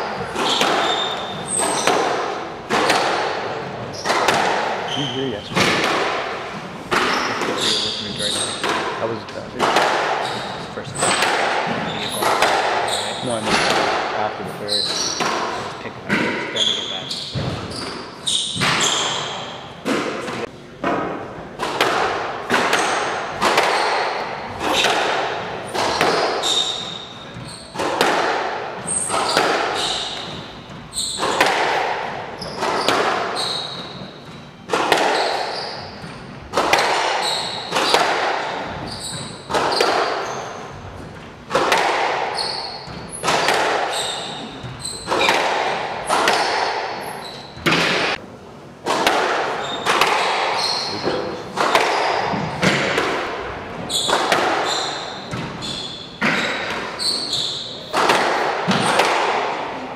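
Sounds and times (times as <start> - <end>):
squash ball hitting rackets and walls: 0.0 - 59.9.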